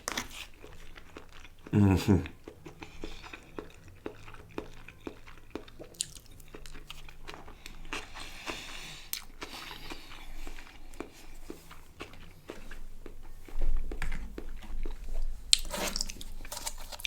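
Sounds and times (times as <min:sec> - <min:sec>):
person chewing and crunching food: 0:00.0 - 0:17.0.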